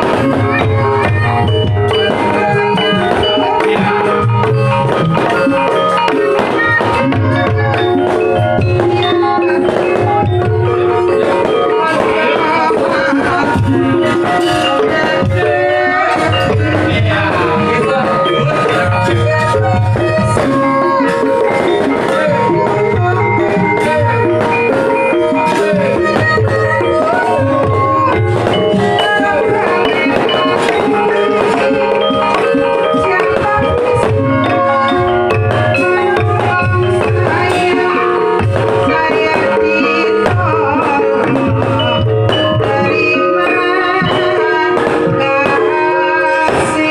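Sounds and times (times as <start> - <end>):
metallophones ringing melody: 0.0 - 46.9.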